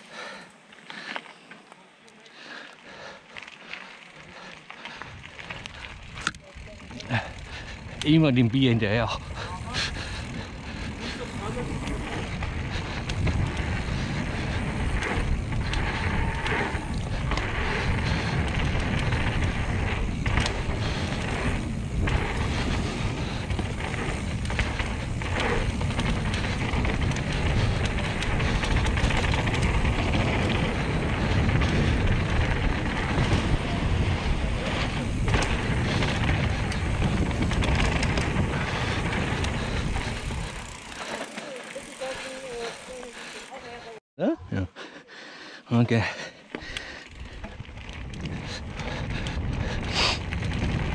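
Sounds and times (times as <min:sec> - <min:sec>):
tyre noise and wind: 0:02.6 - 0:44.0, 0:45.8 - 0:50.9.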